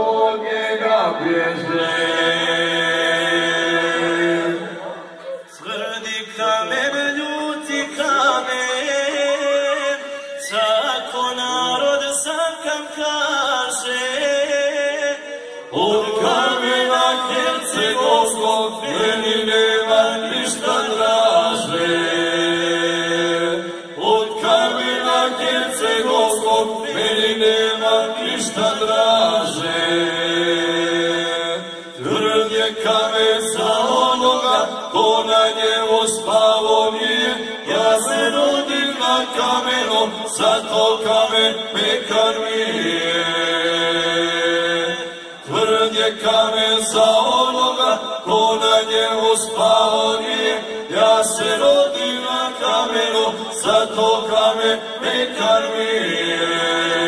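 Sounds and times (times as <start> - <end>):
men singing in harmony: 0.0 - 57.0.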